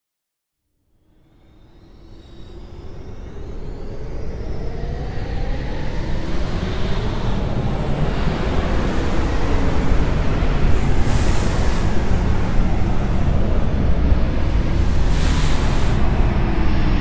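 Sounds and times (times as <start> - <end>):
faint rising whine: 1.2 - 17.0.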